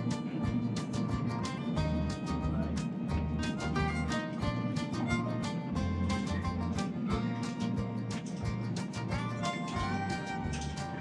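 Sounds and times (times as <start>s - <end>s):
instrumental music with bass line: 0.0s - 11.0s.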